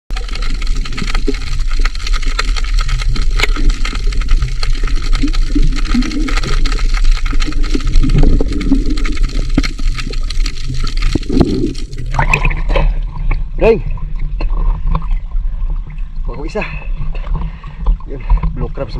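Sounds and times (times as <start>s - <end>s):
dense crackling clicks: 0.1s - 18.9s.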